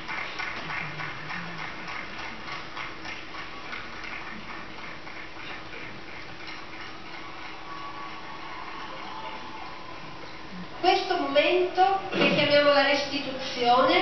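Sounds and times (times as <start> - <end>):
constant background hum: 0.0 - 14.0.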